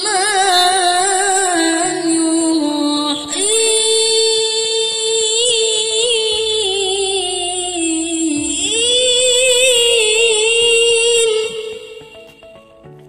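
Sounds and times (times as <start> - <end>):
high voice singing long note: 0.0 - 12.5.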